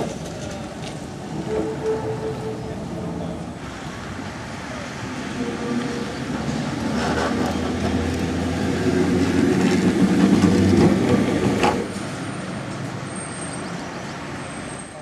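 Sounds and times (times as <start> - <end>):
tram motors humming: 0.0 - 14.6
wheels rumbling on rails: 0.0 - 15.0.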